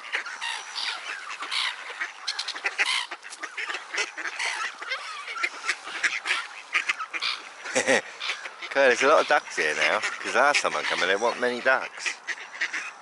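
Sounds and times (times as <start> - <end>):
ducks calling: 0.0 - 13.0
geese calling: 0.0 - 13.0.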